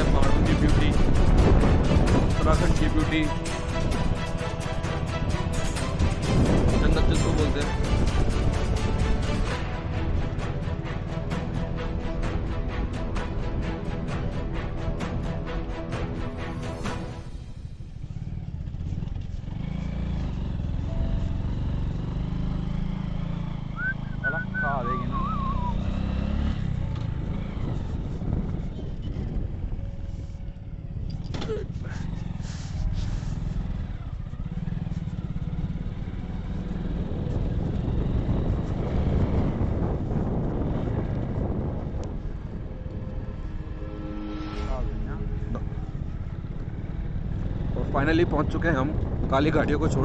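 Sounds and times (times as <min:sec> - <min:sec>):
motorcycle engine running: 0:00.0 - 0:12.4, 0:16.6 - 0:50.0.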